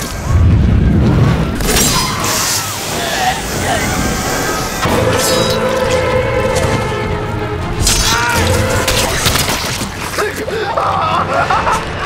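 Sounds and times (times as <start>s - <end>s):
tense horror music score: 0.0s - 12.0s.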